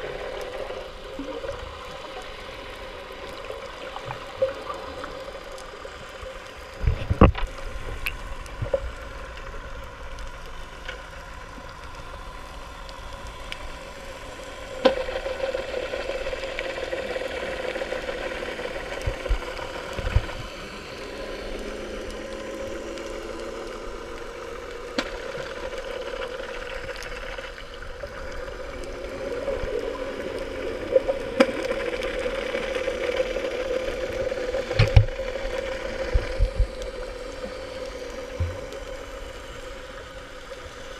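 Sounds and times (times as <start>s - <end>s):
low underwater drone: 0.0s - 40.9s
muffled underwater wash: 0.0s - 40.9s.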